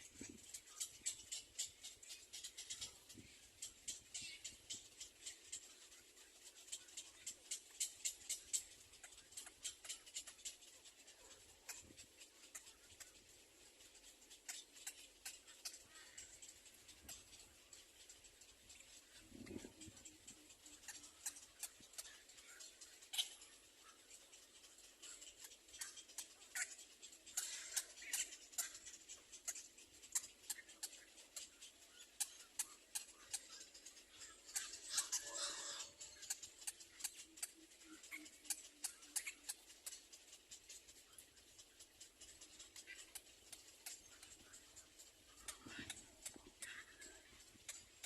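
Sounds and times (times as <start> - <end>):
faint clicks and scratches: 0.0 - 48.0
squeaky bird calls: 0.0 - 48.0.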